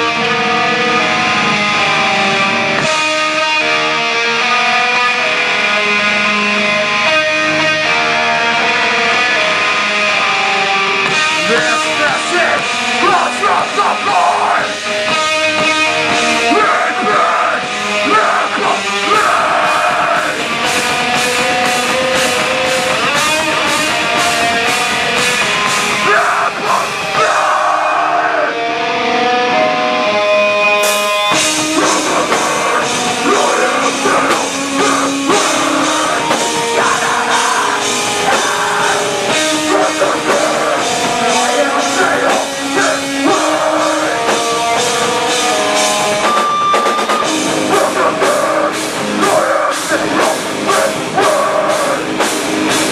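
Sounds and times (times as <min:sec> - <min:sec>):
fast rock drums: 0:00.0 - 0:29.3, 0:30.1 - 0:52.9
distorted electric guitars: 0:00.0 - 0:52.9
rock vocals: 0:00.0 - 0:52.9.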